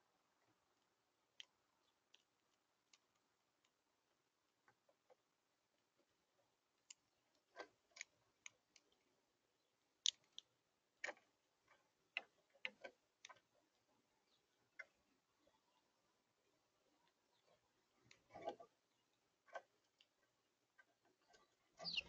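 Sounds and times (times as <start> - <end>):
birds pecking on a feeder: 0.0 - 22.0.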